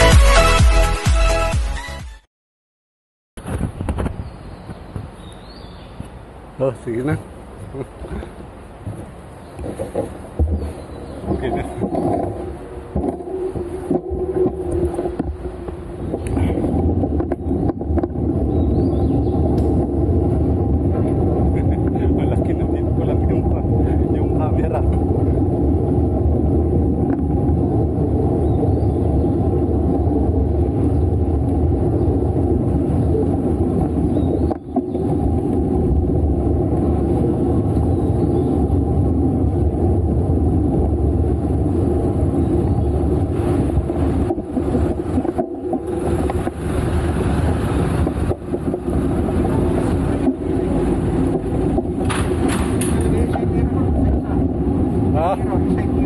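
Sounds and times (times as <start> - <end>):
wind rumbling on microphone: 3.4 - 56.0
bicycle tyre noise: 8.2 - 56.0.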